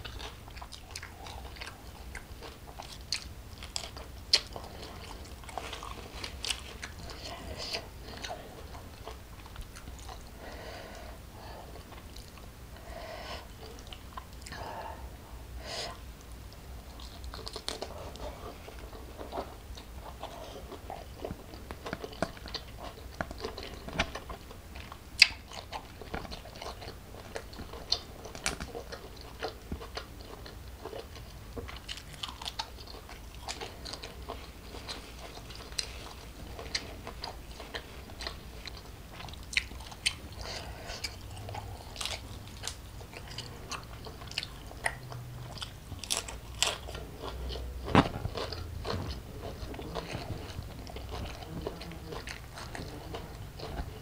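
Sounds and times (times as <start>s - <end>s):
chewing and biting: 0.0s - 12.5s, 16.5s - 54.0s.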